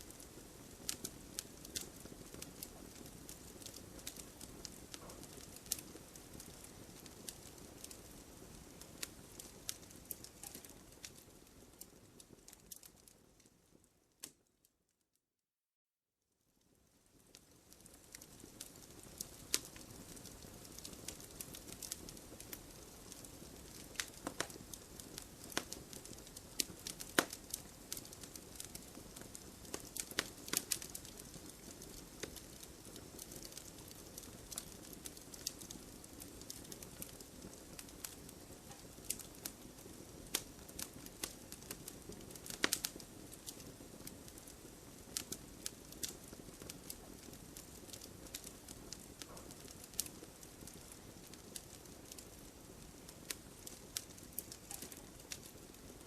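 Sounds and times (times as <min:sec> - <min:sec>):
firewood crackling and popping: 0:00.0 - 0:14.5, 0:16.6 - 0:56.0.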